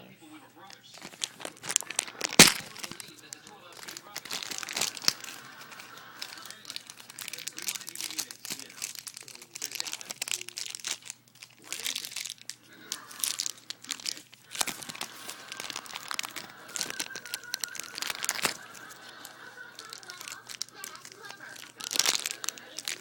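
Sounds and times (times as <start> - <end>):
plastic packaging crinkling: 0.6 - 23.0.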